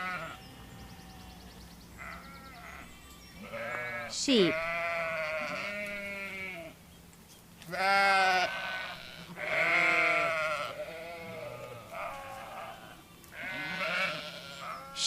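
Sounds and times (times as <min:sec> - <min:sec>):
sheep bleating: 0:00.0 - 0:06.8, 0:07.6 - 0:15.0.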